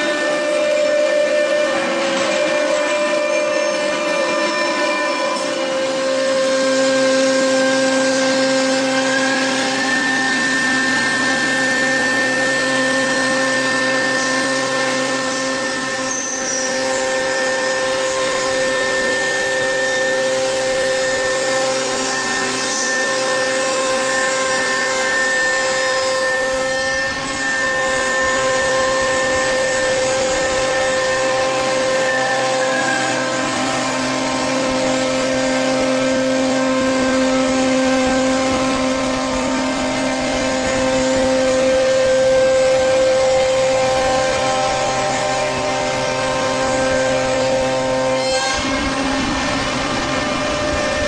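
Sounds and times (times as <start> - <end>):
machine spindle whine: 0.0 - 51.0
rushing noise of wood cutting: 0.0 - 51.0.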